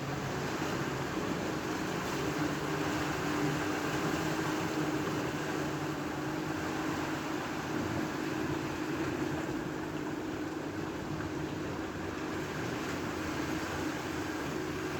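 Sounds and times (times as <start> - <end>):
engine drone: 0.0 - 14.9.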